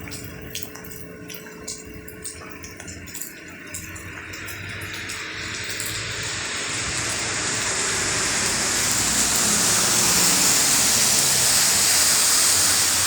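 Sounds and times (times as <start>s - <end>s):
heavy rain falling: 1.4s - 13.0s.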